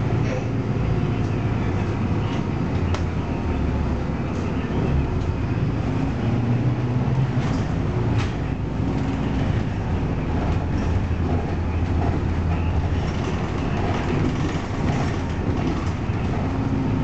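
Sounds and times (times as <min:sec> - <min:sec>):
bus engine drone and road noise: 0:00.0 - 0:17.0.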